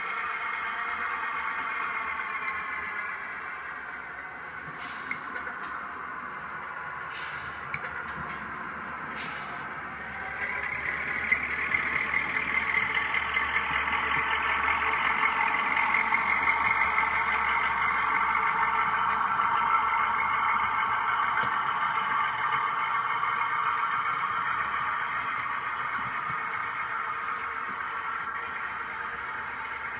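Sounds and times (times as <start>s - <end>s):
diesel engine through small speaker: 0.0s - 29.9s.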